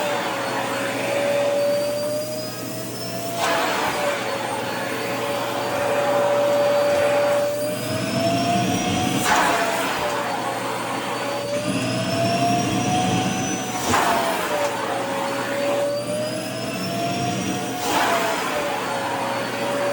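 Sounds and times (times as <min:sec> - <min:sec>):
vacuum cleaner motor whine: 0:00.0 - 0:19.9.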